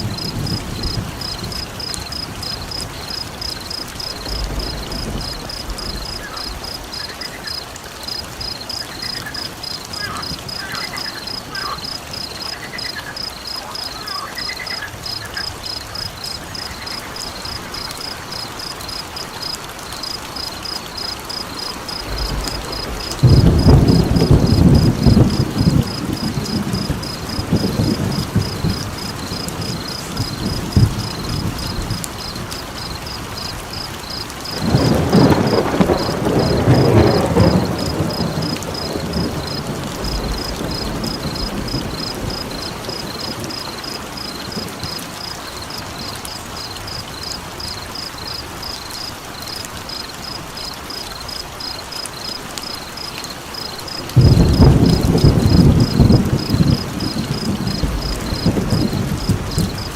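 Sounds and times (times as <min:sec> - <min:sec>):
campfire crackles: 0:00.0 - 0:59.9
rain-like hiss: 0:00.0 - 0:59.9.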